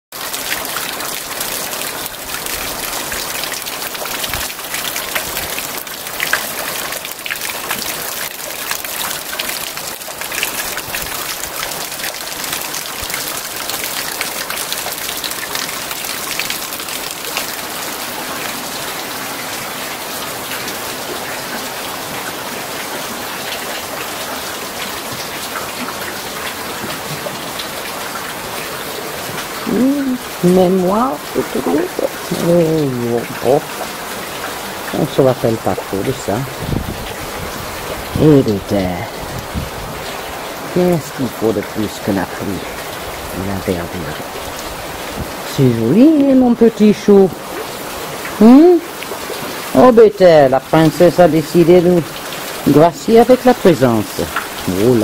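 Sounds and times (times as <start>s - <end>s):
steady rain falling: 0.1s - 55.0s.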